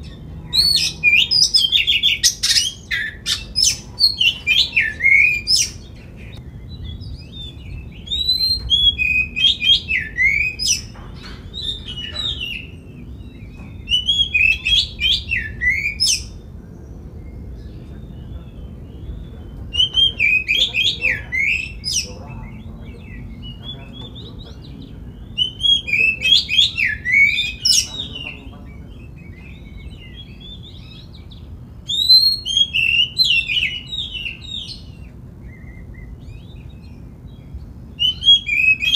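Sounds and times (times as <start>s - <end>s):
bird singing whistled phrases: 0.0s - 10.9s, 11.6s - 16.4s, 17.2s - 38.9s.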